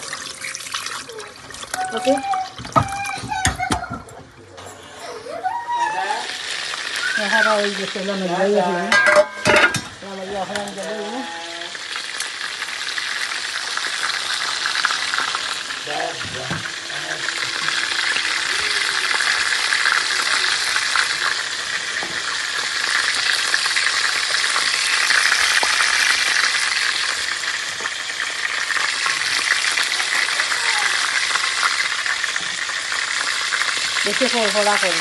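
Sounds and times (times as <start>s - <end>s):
fish frying in hot oil: 0.0s - 4.5s, 5.4s - 35.0s.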